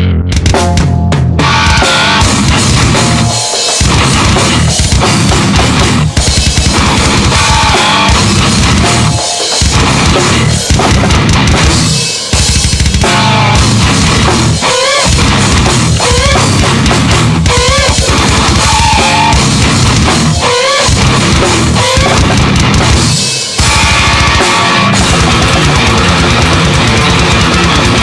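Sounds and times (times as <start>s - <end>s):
high bending melodic phrase: 0.0s - 26.4s
bass guitar: 0.0s - 28.0s
distorted electric guitar: 0.0s - 28.0s
drum kit with bass drum: 0.0s - 28.0s.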